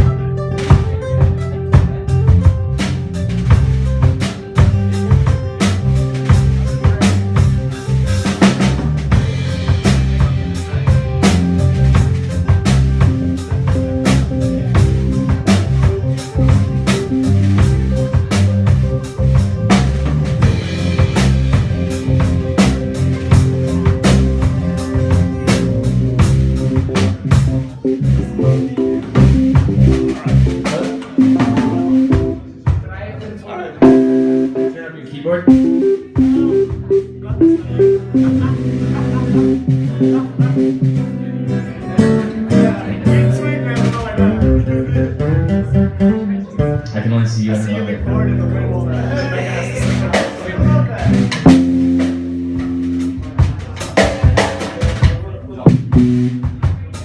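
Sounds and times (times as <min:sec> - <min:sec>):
drum kit: 0:00.0 - 0:47.1, 0:48.1 - 0:57.0
rock band playing: 0:00.0 - 0:57.0.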